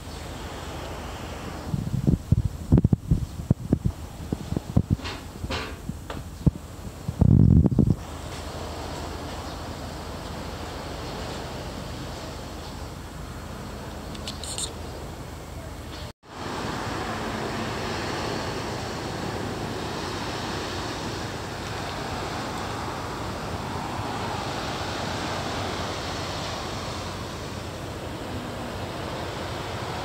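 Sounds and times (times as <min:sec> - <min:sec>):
outdoor rushing hiss: 0:00.0 - 0:07.2, 0:07.8 - 0:15.3, 0:15.9 - 0:30.0.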